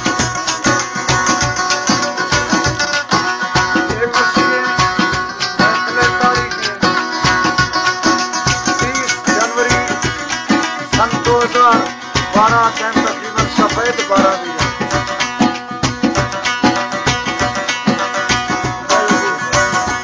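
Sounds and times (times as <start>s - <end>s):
hand drum beat: 0.0s - 20.0s
plucked string instrument: 0.0s - 20.0s.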